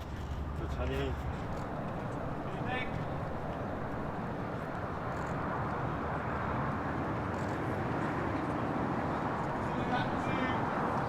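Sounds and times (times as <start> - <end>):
outdoor rush and hiss: 0.0 - 11.0.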